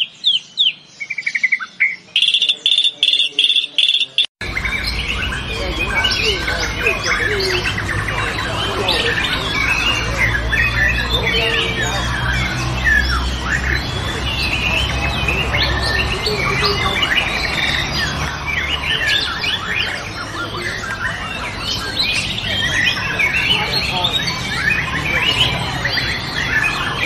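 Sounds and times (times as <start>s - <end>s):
songbirds whistling and trilling: 0.0s - 27.0s.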